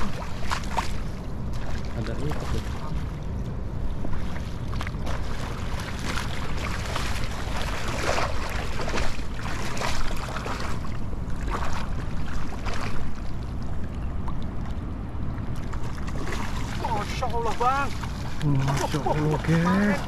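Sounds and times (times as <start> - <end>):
river water splashing: 0.0 - 20.0
wind rumbling on microphone: 0.0 - 20.0.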